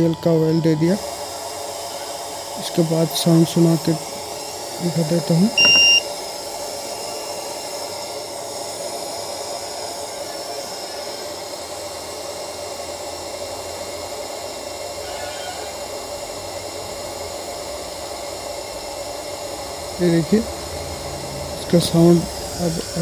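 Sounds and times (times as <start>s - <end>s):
blower fan whirring: 0.0s - 23.0s.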